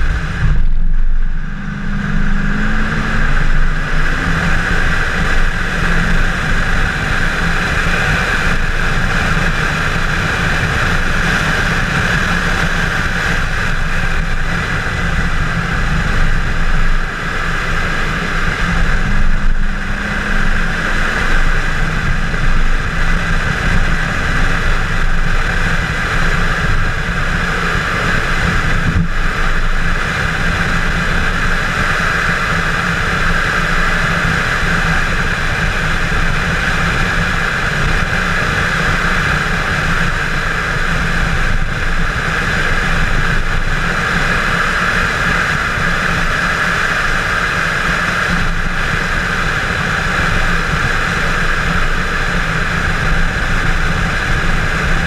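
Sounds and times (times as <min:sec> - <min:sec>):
car engine running hard: 0:00.0 - 0:55.0
wind and road noise: 0:00.0 - 0:55.0.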